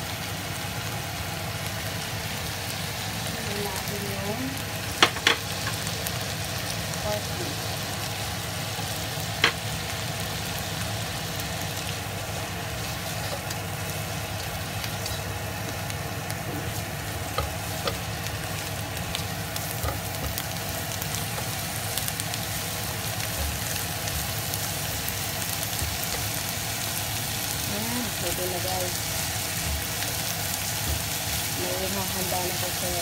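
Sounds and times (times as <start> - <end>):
shrimp sizzling in oil: 0.0 - 33.0.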